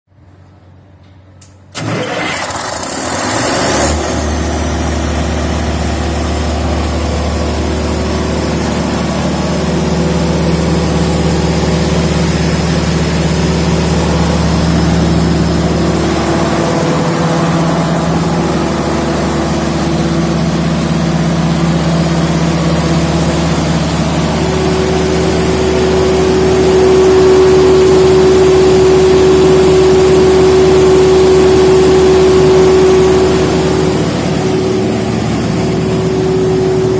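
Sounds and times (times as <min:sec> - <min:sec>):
diesel generator engine running: 0:01.7 - 0:36.9
steady whine: 0:03.9 - 0:36.9.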